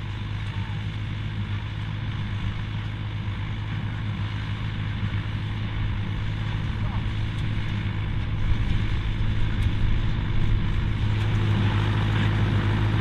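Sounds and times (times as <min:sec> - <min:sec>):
baler machinery noise: 0:00.0 - 0:13.0
tractor diesel engine running: 0:00.0 - 0:13.0.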